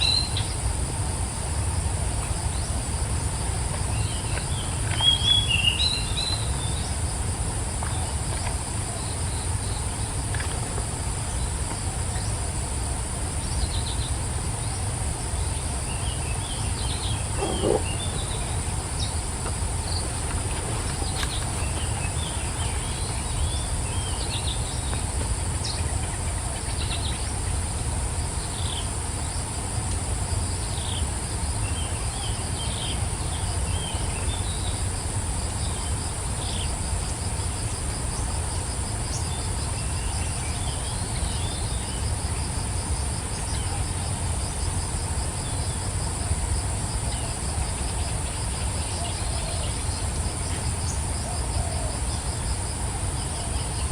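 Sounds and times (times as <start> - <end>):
fast pulsing insect trill: 0.0 - 53.9.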